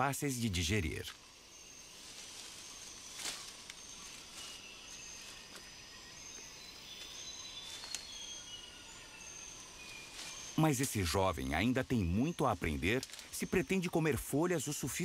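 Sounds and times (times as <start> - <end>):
steady rainforest hiss: 0.0 - 15.0
leafy branches rustling: 0.6 - 14.4.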